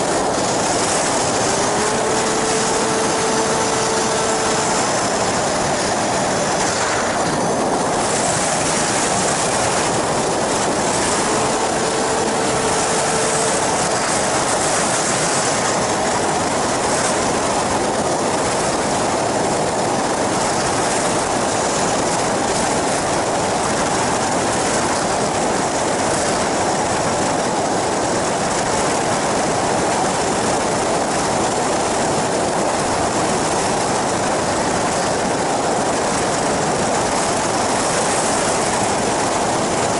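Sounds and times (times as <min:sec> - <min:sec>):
aircraft engine and wind rush: 0:00.0 - 0:39.9.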